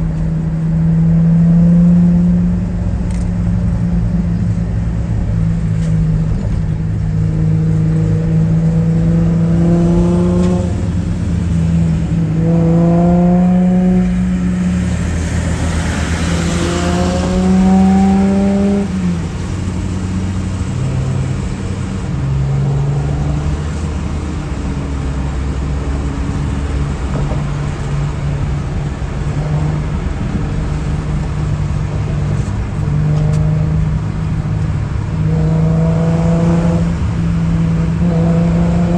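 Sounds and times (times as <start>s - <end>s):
low engine drone: 0.0s - 38.9s
passing vehicle rush: 0.0s - 38.9s
cars accelerating through gears: 6.4s - 38.9s.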